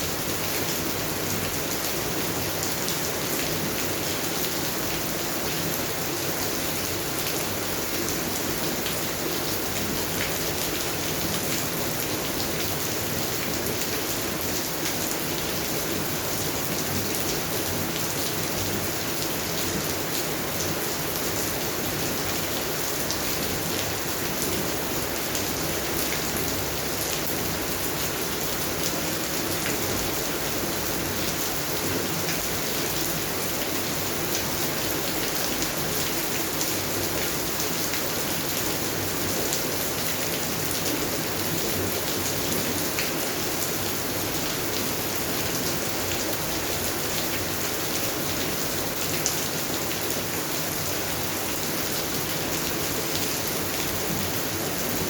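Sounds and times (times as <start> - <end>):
rain on plants and ground: 0.0 - 55.0.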